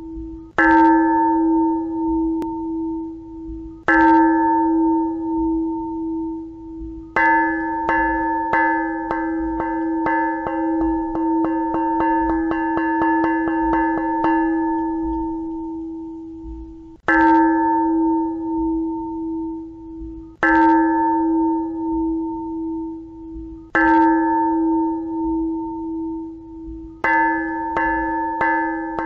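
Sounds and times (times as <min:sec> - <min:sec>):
temple bell strokes ringing: 0:00.0 - 0:29.0.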